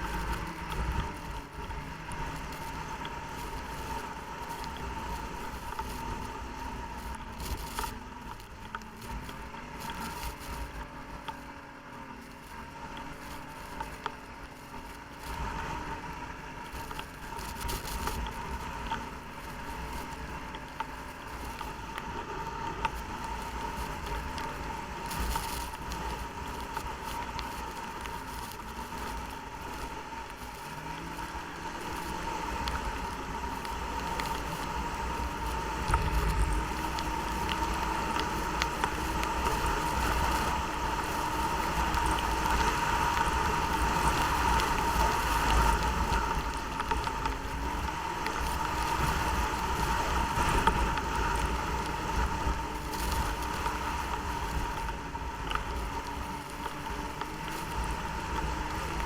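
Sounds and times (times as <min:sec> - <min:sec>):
snowmobile engine running: 0:00.0 - 0:59.0
wind rumbling on microphone: 0:00.0 - 0:59.0.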